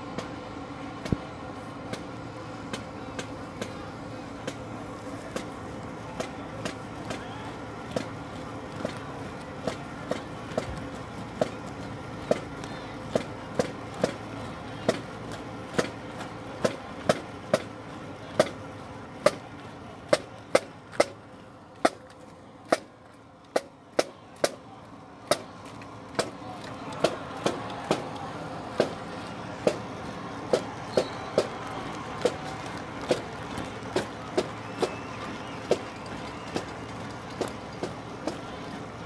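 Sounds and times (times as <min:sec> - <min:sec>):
outdoor background noise: 0:00.0 - 0:39.0.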